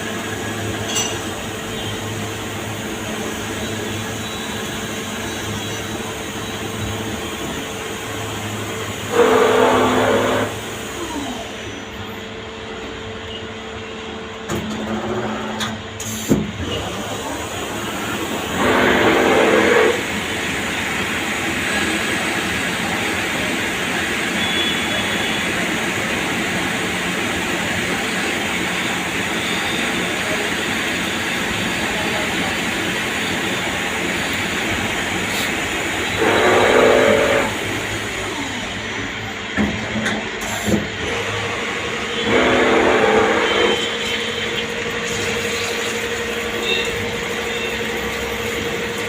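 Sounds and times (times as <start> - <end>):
high-pitched machine whine: 0.0 - 49.0
lathe machining noise: 0.0 - 49.0.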